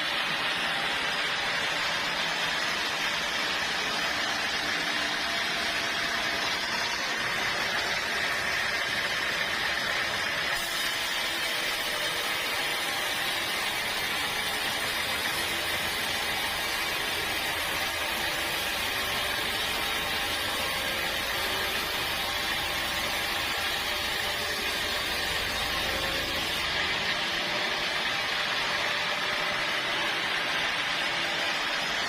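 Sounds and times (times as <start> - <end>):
saw cutting through log: 0.0 - 32.0.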